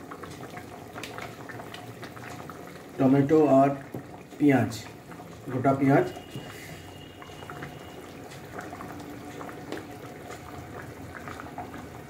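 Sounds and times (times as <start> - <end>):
gravy bubbling in a pan: 0.0 - 12.0.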